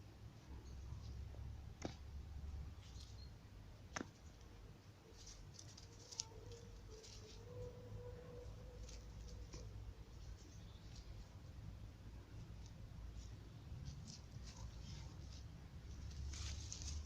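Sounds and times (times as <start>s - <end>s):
kittens' paws scuffling and scratching: 0.6s - 3.3s, 3.9s - 17.0s.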